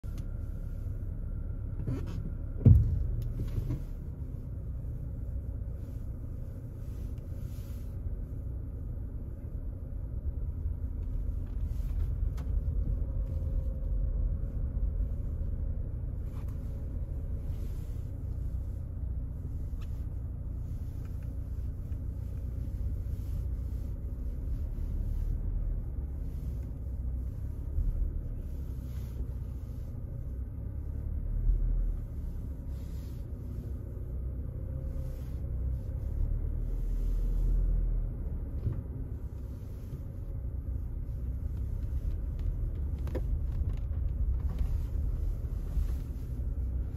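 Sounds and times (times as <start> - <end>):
engine and tyres rumbling on snow: 0.0 - 46.9.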